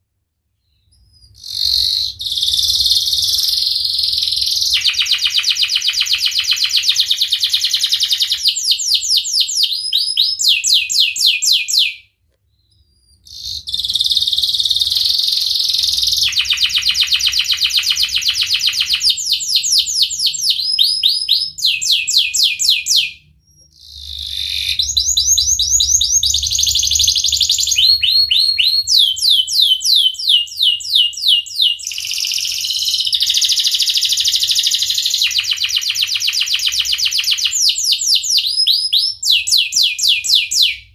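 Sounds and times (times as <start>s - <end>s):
canary singing trills: 0.6s - 12.0s, 12.6s - 40.9s.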